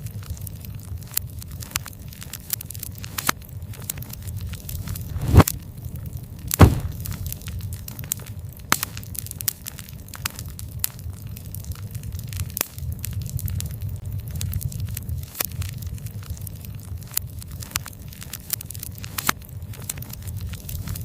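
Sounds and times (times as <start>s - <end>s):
wood fire crackling: 0.1s - 21.0s.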